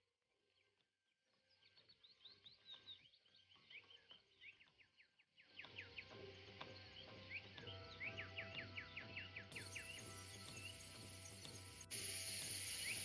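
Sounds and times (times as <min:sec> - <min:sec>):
bird chirps: 0:01.5 - 0:13.0.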